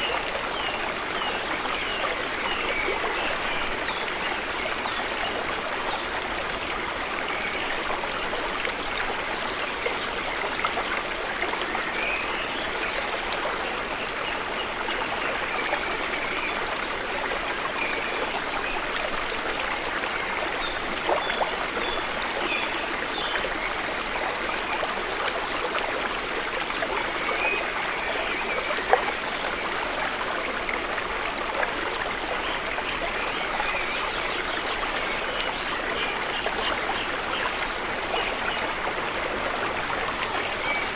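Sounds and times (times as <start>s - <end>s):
river water flowing: 0.0s - 40.9s
water gurgling: 0.0s - 40.9s.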